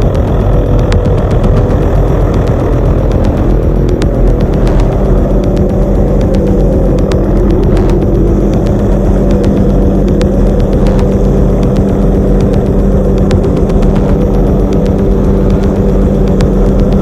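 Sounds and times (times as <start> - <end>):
helicopter turbine and rotor: 0.0 - 17.0.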